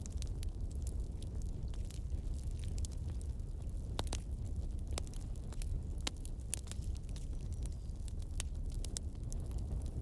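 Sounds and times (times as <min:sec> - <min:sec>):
campfire crackling and popping: 0:00.0 - 0:10.0
fire low rumble: 0:00.0 - 0:10.0.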